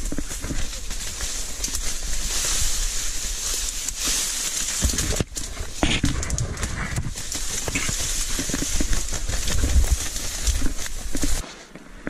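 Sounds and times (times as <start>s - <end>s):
dry reeds rustling and crackling: 0.0s - 12.0s.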